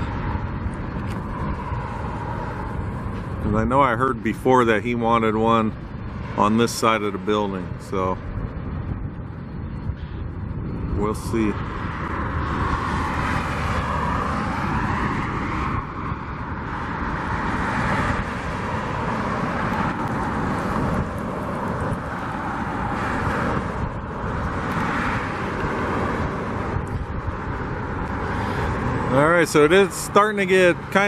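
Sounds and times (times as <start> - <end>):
road traffic passing: 0.0 - 31.0
wind rumbling on microphone: 0.0 - 31.0.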